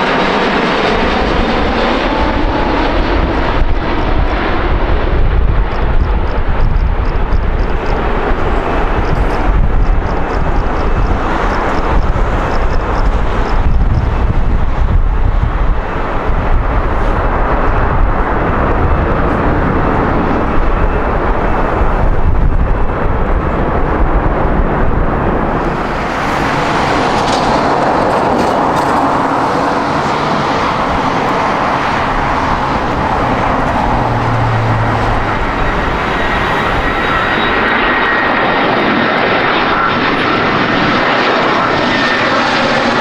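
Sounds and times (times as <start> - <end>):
jet engine roaring: 0.0 - 43.0.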